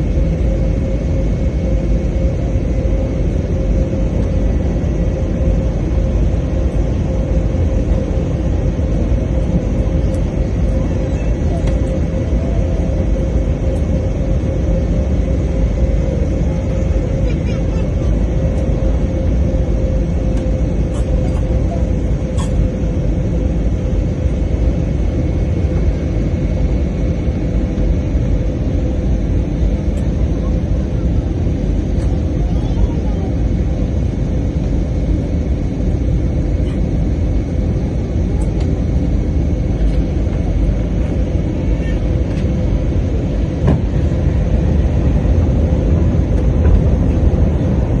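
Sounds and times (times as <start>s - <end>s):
airliner cabin engine rumble: 0.0s - 48.0s
constant hum: 0.0s - 48.0s.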